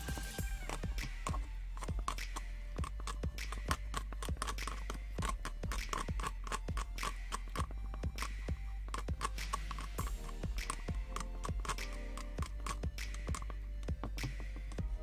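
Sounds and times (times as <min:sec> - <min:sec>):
background music with beat: 0:00.0 - 0:15.0
skewer scraping plastic cup: 0:00.0 - 0:15.0.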